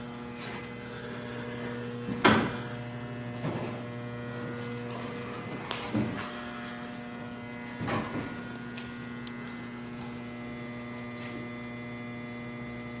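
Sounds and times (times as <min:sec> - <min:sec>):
buzzy electrical hum: 0:00.0 - 0:13.0.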